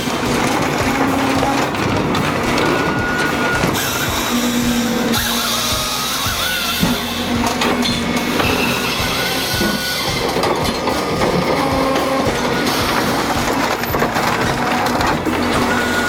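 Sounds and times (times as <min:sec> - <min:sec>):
wood-processing machinery clattering: 0:00.0 - 0:16.0.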